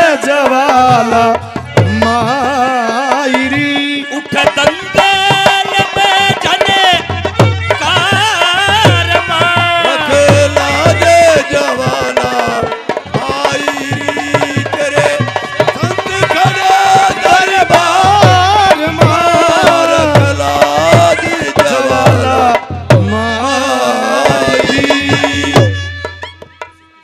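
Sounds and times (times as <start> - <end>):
hand drum beats: 0.0 - 26.8.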